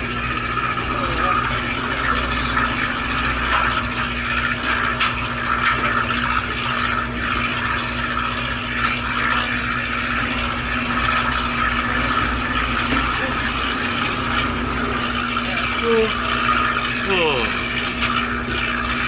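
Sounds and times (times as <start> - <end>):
boat engine humming: 0.0 - 19.0
water noise: 0.0 - 19.0.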